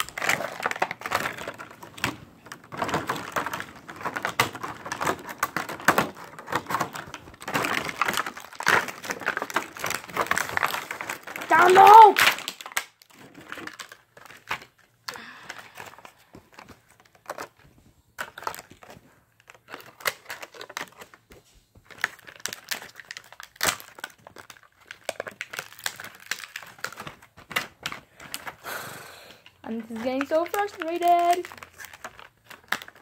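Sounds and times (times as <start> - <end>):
plastic packaging crinkling: 0.0 - 33.0.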